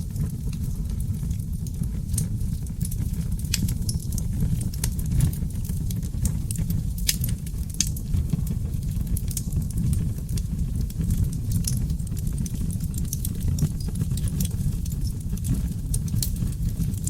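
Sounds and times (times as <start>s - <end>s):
fire crackling and popping: 0.0s - 17.0s
fire roaring: 0.0s - 17.0s.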